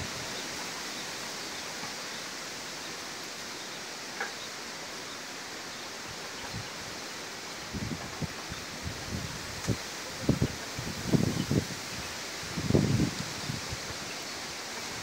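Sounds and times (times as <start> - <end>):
strong wind rustling foliage: 0.0 - 15.0.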